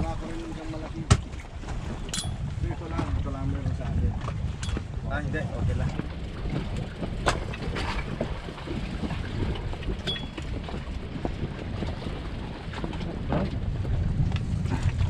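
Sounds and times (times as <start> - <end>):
boat engine rumble: 0.0 - 15.0
water noise: 0.0 - 15.0
wind on microphone: 0.0 - 15.0.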